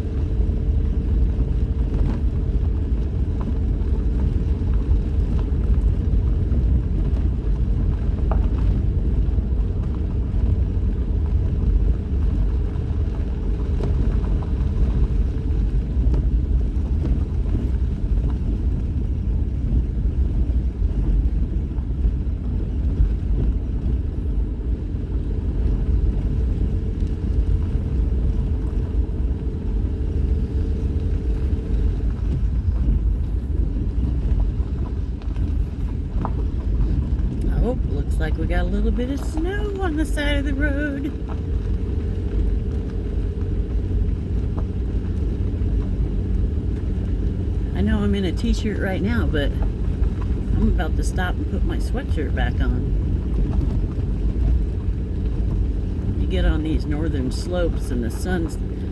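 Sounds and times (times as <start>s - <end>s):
vehicle engine and road noise: 0.0s - 58.9s.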